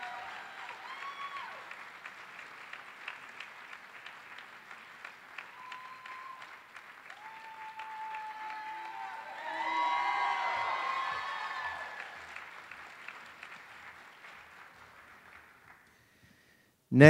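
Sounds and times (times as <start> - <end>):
crowd cheering: 0.0 - 15.8
audience clapping: 0.0 - 16.2.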